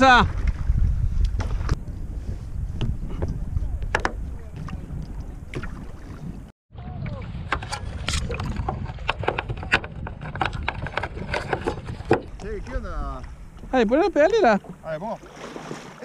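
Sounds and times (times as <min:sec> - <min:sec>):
wind rumble on microphone: 0:00.0 - 0:14.8
water splashing against kayak hull: 0:00.0 - 0:16.0.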